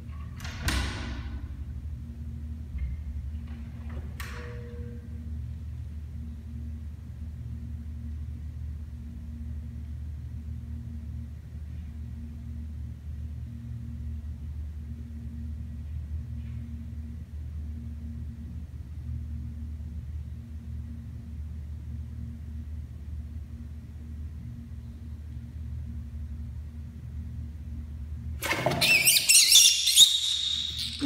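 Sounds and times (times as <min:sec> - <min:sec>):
machine hum and rumble: 0:00.0 - 0:29.0.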